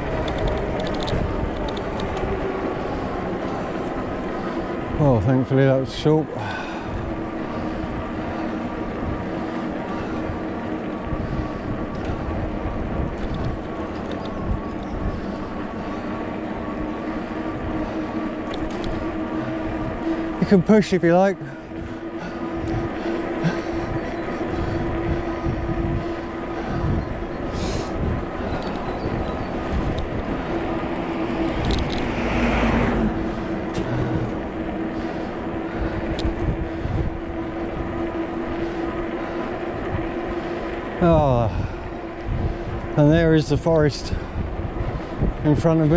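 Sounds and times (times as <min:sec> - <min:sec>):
tyres and wind rumbling: 0:00.0 - 0:45.9
electric motor whine: 0:06.6 - 0:45.9.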